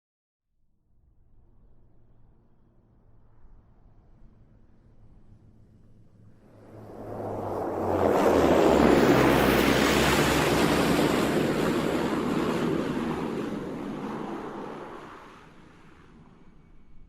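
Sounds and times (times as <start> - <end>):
low propeller drone: 0.9 - 17.0
turboprop plane passing by: 1.0 - 17.0.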